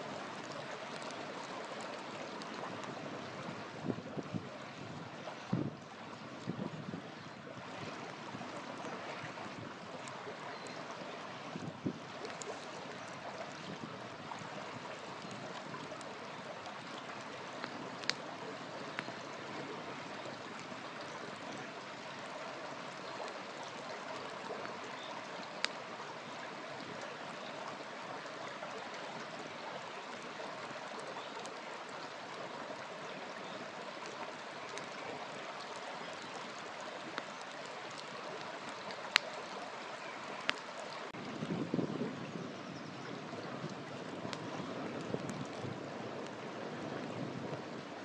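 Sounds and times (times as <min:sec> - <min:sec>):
campfire crackling: 0:00.0 - 0:41.8, 0:43.2 - 0:48.0.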